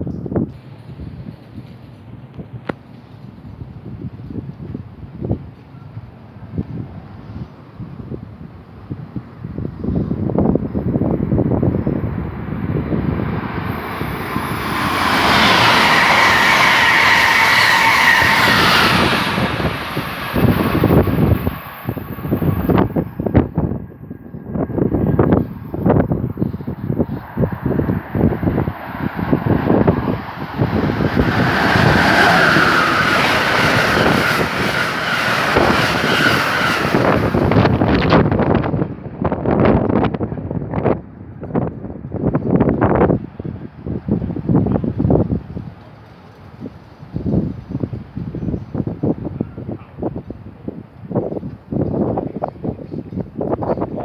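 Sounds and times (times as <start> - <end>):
train passing at speed: 0.0 - 53.9
wind buffeting microphone: 0.0 - 54.0.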